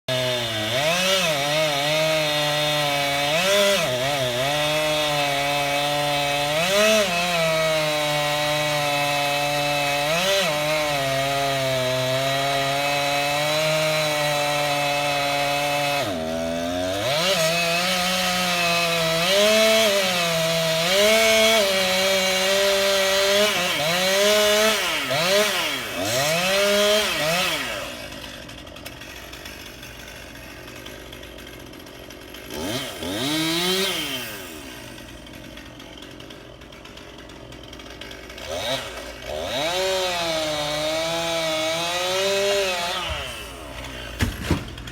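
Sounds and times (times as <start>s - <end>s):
chainsaw cutting wood: 0.1s - 44.9s.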